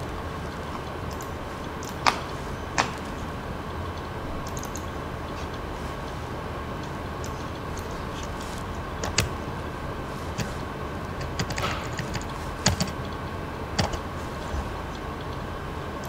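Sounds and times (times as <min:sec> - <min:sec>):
steady background hum: 0:00.0 - 0:16.0
computer mouse clicks: 0:00.4 - 0:03.3, 0:03.9 - 0:06.2, 0:06.8 - 0:09.4, 0:10.3 - 0:15.4.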